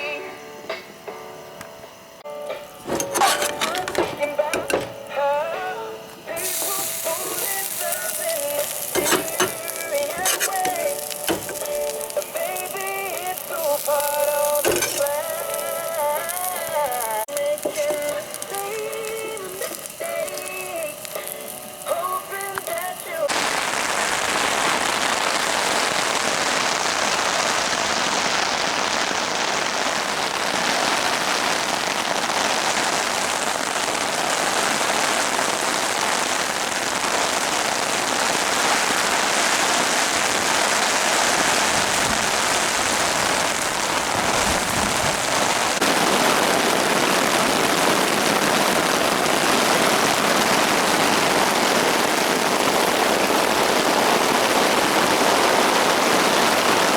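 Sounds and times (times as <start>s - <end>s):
heavy rain falling: 6.4s - 56.9s.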